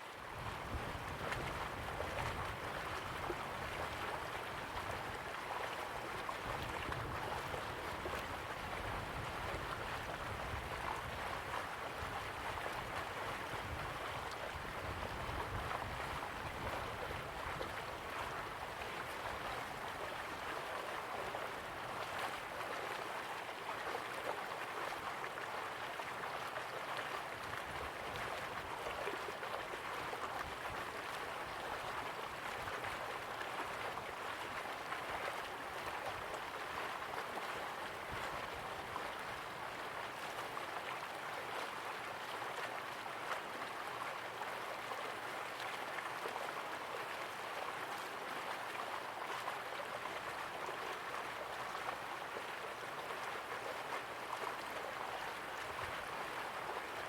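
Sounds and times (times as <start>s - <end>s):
river water rushing and burbling: 0.0s - 57.0s.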